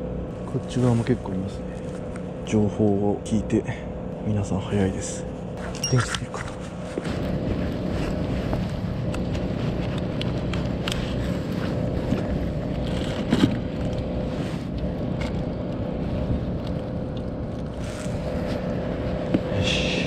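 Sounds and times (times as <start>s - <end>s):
low rumble with hum: 0.0s - 20.0s.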